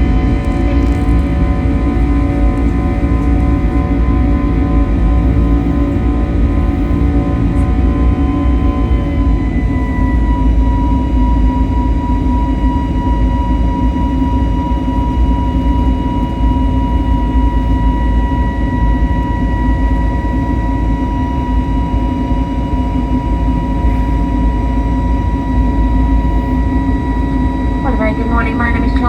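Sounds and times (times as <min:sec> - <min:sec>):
high engine whine: 0:00.0 - 0:29.0
low rumble of engines and airflow: 0:00.0 - 0:29.0.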